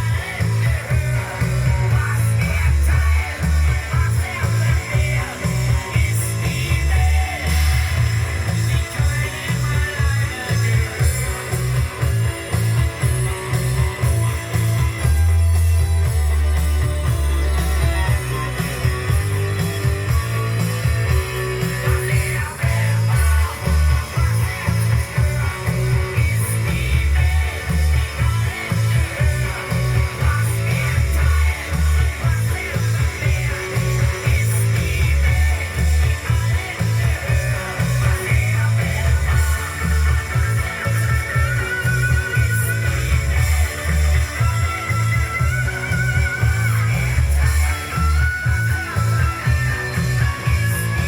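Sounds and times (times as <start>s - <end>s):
guitar and singing with bass: 0.0s - 51.0s.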